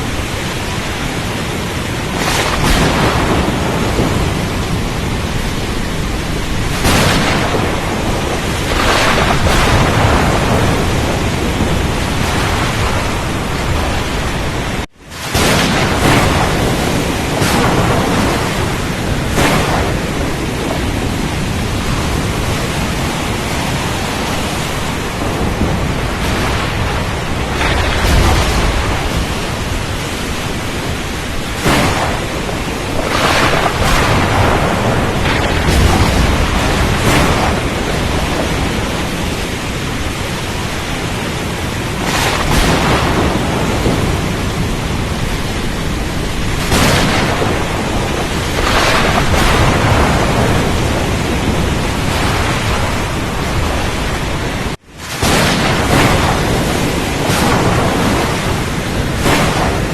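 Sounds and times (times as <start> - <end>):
rain: 0.0 - 59.9
water surging: 0.0 - 59.9
wind rushing: 0.0 - 59.9.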